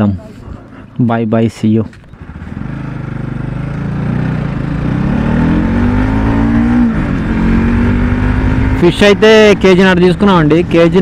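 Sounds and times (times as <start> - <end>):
motorcycle engine under throttle: 1.9 - 11.0.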